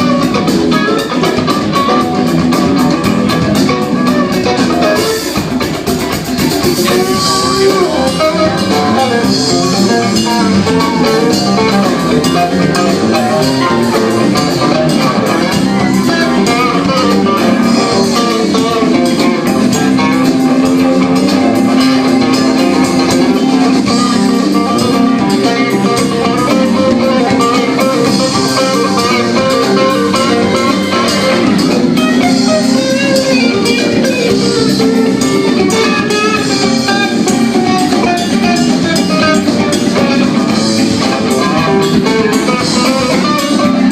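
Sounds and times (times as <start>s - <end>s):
drum kit: 0.0s - 43.9s
guitar lines: 0.0s - 43.9s.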